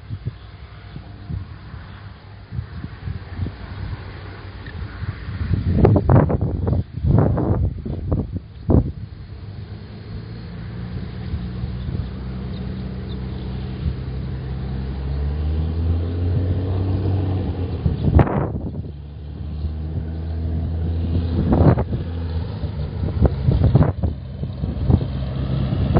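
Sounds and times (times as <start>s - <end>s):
light aircraft engine and propeller: 0.0s - 25.9s
wind gusts on microphone: 0.0s - 25.9s.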